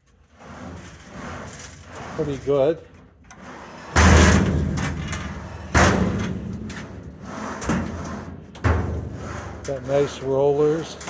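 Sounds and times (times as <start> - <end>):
steel drawers sliding and banging shut: 0.5 - 11.0.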